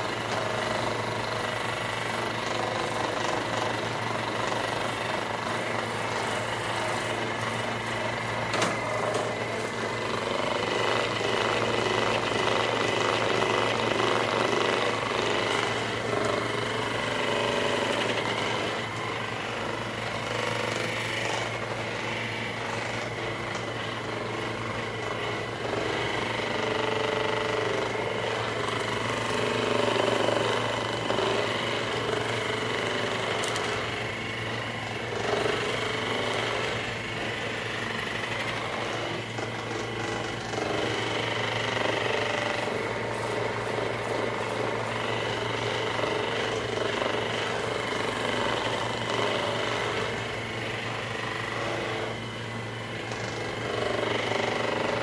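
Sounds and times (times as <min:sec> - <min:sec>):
massage gun running: 0:00.0 - 0:55.0.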